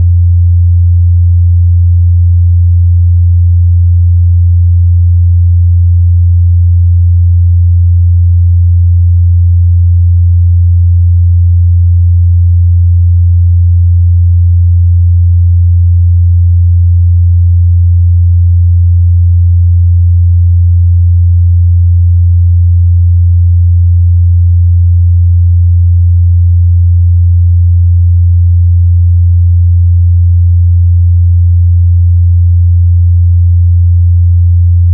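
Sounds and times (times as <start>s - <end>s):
low sine test tone: 0.0s - 34.9s.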